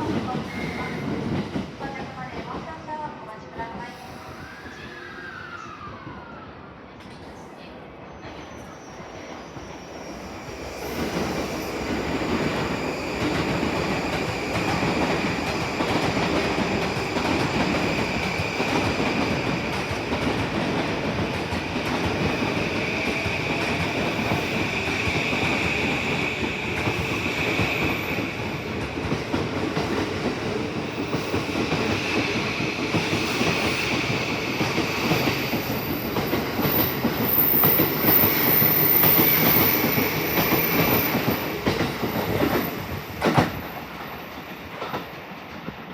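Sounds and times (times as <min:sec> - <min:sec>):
train wheels rumbling on rails: 0:00.0 - 0:07.5, 0:08.3 - 0:45.9.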